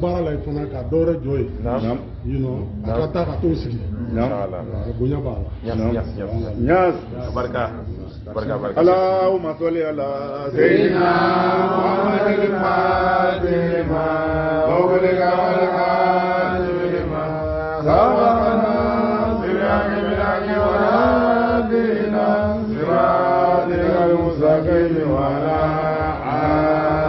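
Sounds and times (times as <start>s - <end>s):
devotional chanting: 0.0s - 27.0s.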